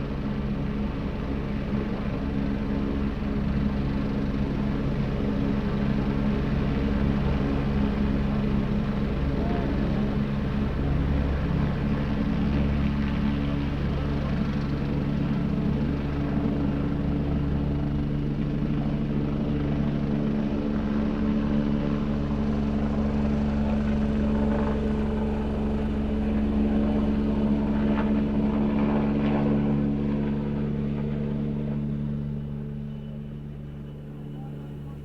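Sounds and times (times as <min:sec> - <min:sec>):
helicopter engine and rotor: 0:00.0 - 0:35.0.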